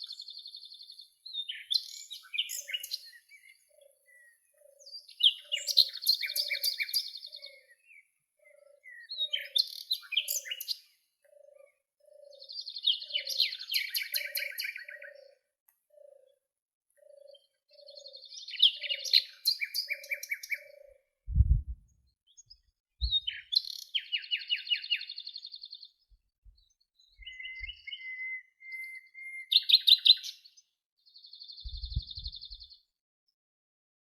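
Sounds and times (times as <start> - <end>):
songbirds trilling: 0.1 - 16.4, 17.0 - 21.1, 23.1 - 32.8.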